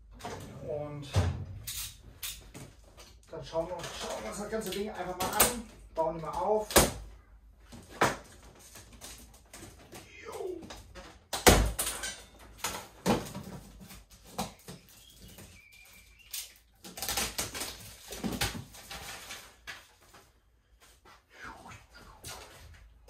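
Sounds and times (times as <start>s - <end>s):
cardboard and tape rustling: 1.7s - 21.1s.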